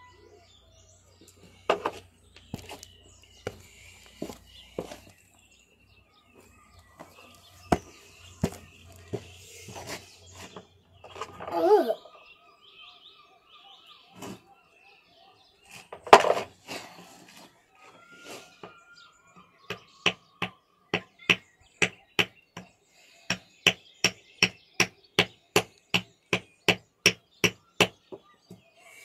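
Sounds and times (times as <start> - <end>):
faint bird chirps: 0.0 - 16.0, 16.7 - 29.0.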